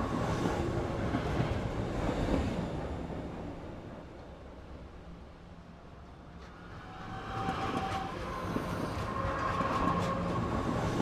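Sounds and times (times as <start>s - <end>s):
electric train rumbling on rails: 0.0s - 11.0s.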